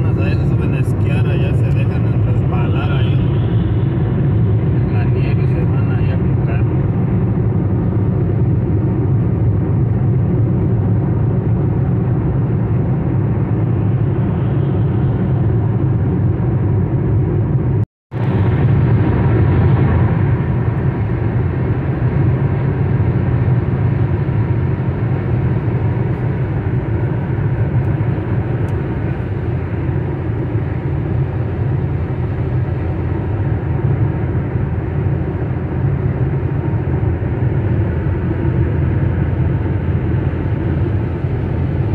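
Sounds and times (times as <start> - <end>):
car road noise on wet highway: 0.0 - 17.6, 18.2 - 41.9.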